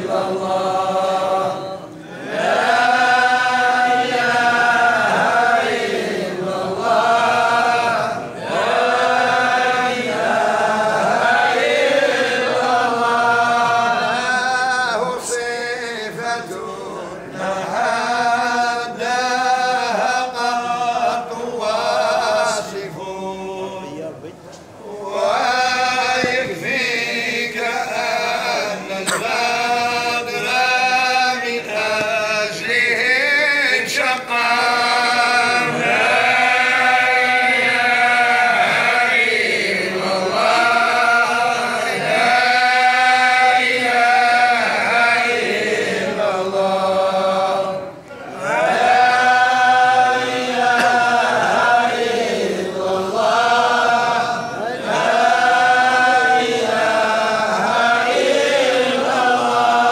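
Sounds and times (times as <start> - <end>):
men chanting devotional praise: 0.0 - 59.9.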